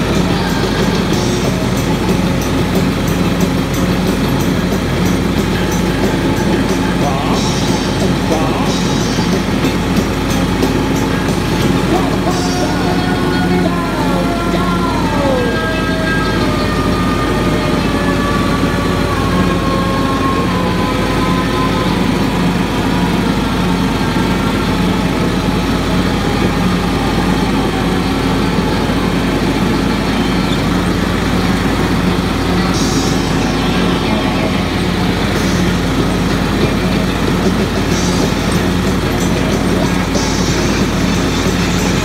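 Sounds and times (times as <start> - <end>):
riding lawn mower engine: 0.0 - 42.0.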